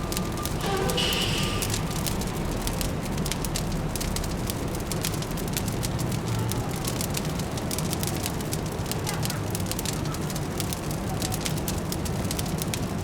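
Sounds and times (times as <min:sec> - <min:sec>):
distant city traffic hum: 0:00.0 - 0:13.0
wood fire crackling and popping: 0:00.0 - 0:13.0.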